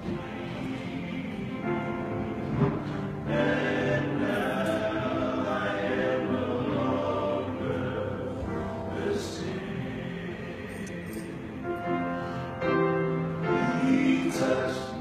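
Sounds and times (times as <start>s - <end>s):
male choir singing: 0.0s - 12.2s, 13.4s - 15.0s.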